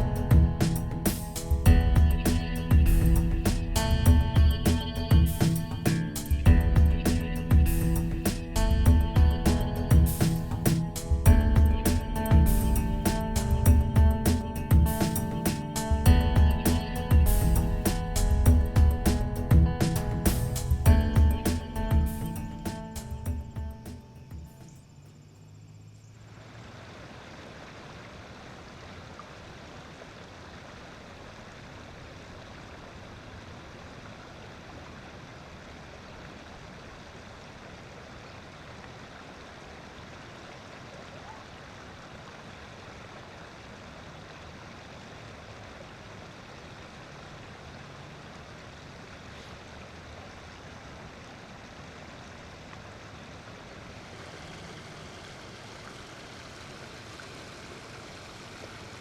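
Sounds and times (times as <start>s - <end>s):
steady rushing outdoor noise: 0.0s - 59.0s.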